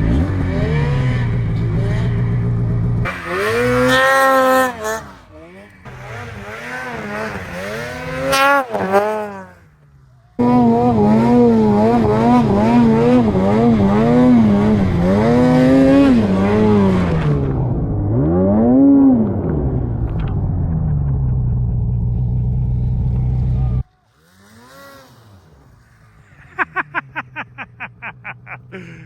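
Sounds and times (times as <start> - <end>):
snowmobile engine revving: 0.0 - 29.0.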